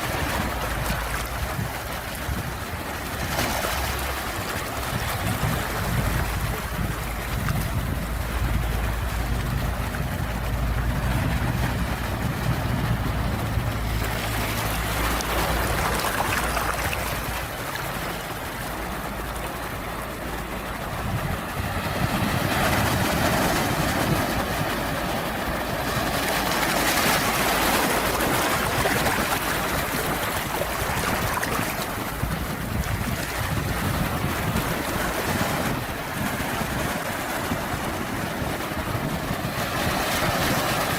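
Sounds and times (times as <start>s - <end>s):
low steady rumble: 0.0s - 40.9s
ocean waves washing in: 0.0s - 40.9s.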